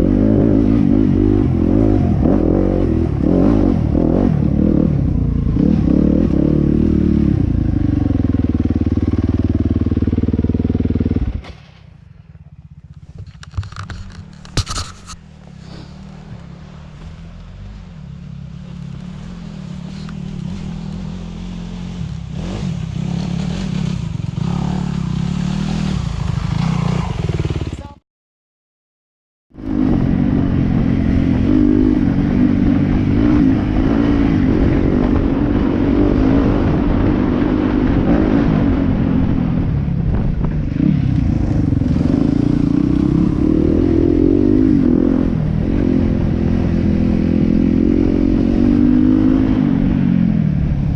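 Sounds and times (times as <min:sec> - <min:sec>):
motorcycle engine revving: 0:00.0 - 0:28.0, 0:29.5 - 0:50.9.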